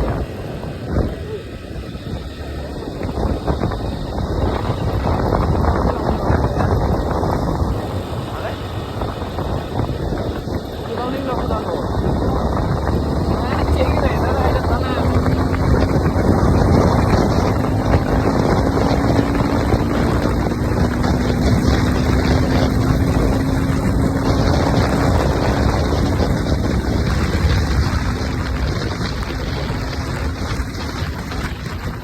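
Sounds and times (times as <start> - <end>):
motorcycle engine running: 0.0 - 32.0
wind buffeting microphone: 0.0 - 32.0.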